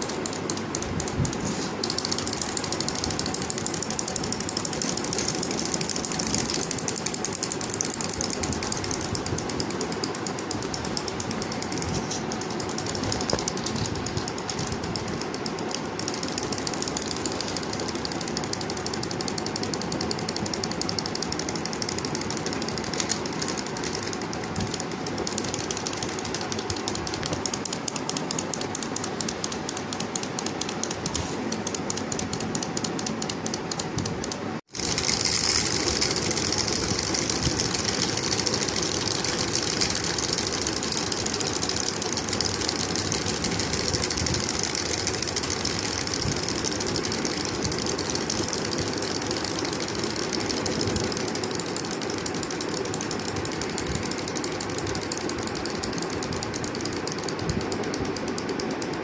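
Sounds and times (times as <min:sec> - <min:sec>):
wind-up toys clicking rattle: 0:00.0 - 0:59.0.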